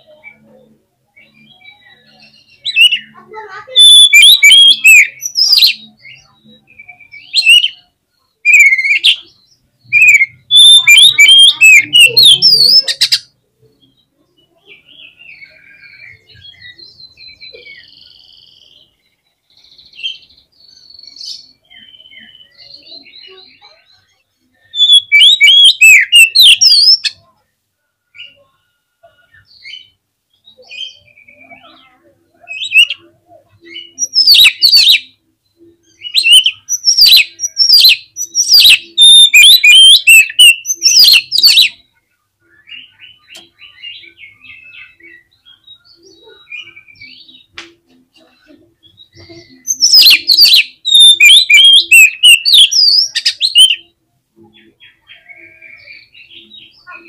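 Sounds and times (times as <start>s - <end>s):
bird song whistling and twittering: 0.0s - 27.3s, 28.1s - 57.0s.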